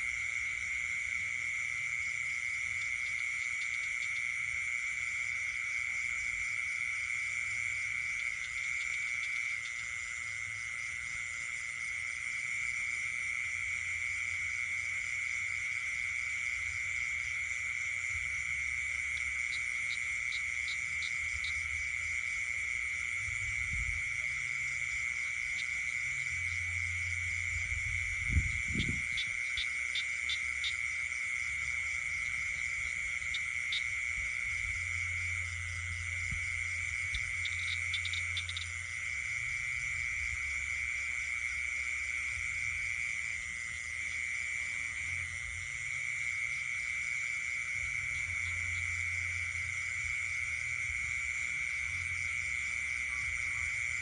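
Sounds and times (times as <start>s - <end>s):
frogs rapid clicking calls: 0.0s - 54.0s
high insect trill: 0.0s - 54.0s.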